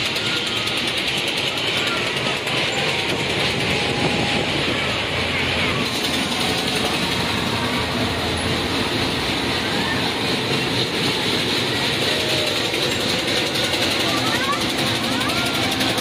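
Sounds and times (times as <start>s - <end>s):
fairground noise: 0.0s - 16.0s
ferris wheel rumbling and clattering: 0.0s - 16.0s.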